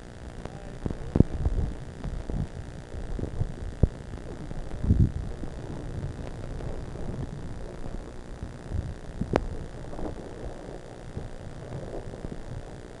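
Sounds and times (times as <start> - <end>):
wind buffeting microphone: 0.8 - 13.0.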